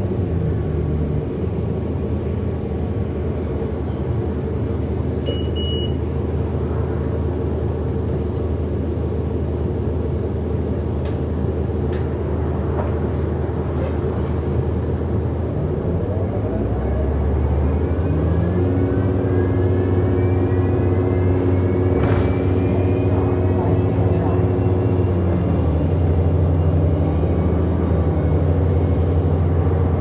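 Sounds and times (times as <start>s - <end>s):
bus drivetrain drone: 0.0s - 30.0s.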